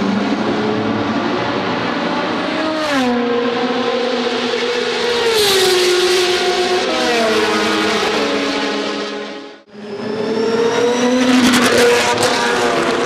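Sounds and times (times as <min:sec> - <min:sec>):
race cars passing at high revs: 0:00.0 - 0:13.0.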